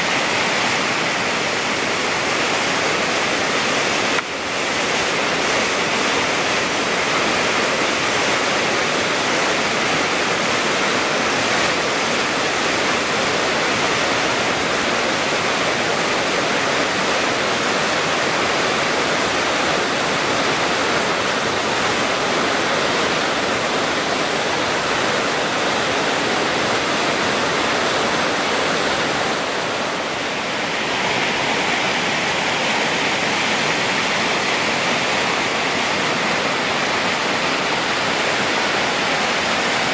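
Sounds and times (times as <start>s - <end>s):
river rapids roaring: 0.0s - 39.9s.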